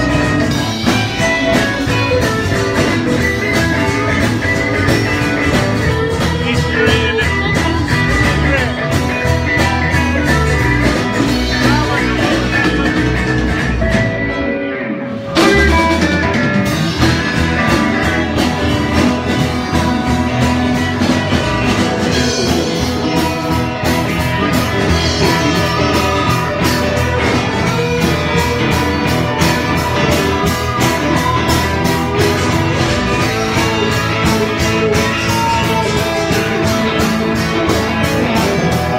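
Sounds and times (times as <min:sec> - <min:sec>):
drums: 0:00.0 - 0:38.9
electric guitars: 0:00.0 - 0:38.9.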